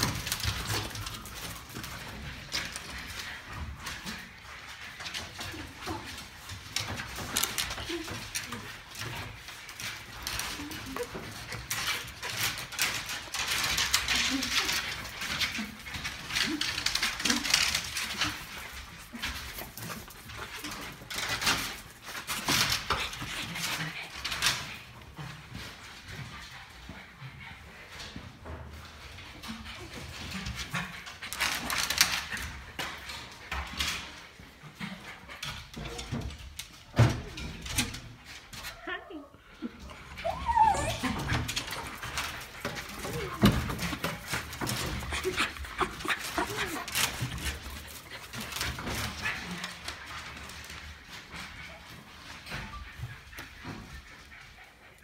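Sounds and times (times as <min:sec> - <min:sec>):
dogs scrabbling on wood: 0:00.0 - 0:55.0.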